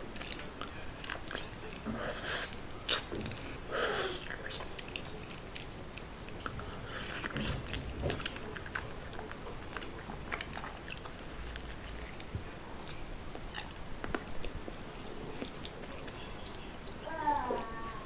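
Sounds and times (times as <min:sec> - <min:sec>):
person biting and chewing food: 0:00.0 - 0:18.0.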